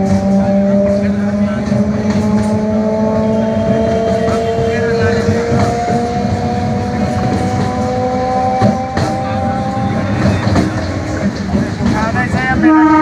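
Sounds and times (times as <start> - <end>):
train rumble and rattle: 0.0 - 13.0
wheels clacking over rail joints: 0.0 - 13.0.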